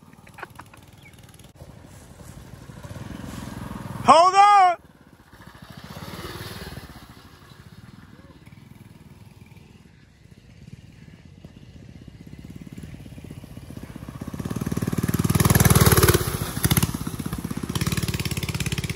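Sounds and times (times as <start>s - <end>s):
small engine running: 0.0s - 4.1s, 4.8s - 18.9s.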